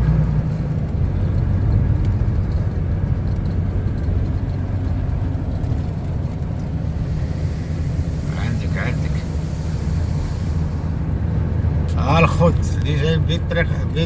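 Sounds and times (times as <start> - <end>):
road rumble: 0.0 - 14.0
vehicle engine running: 0.0 - 14.0.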